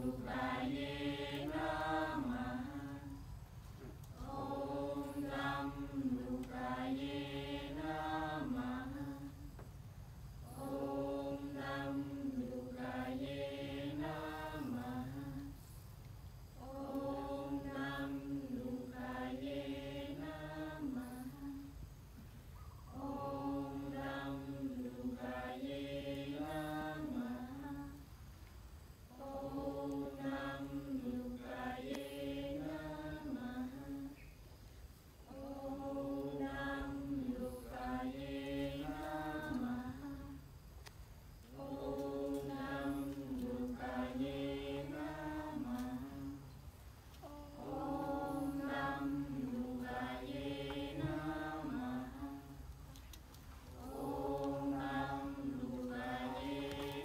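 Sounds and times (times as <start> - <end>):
group chanting in unison: 0.0 - 3.3, 4.1 - 9.6, 10.4 - 15.6, 16.6 - 21.7, 22.8 - 28.0, 29.1 - 34.2, 35.2 - 40.5, 41.5 - 46.5, 47.2 - 52.6, 53.7 - 57.0.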